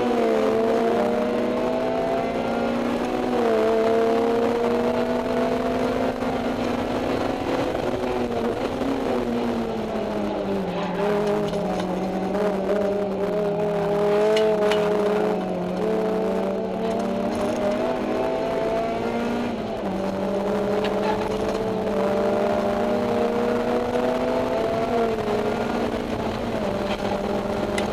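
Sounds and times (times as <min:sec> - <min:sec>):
car engine running hard: 0:00.0 - 0:27.9.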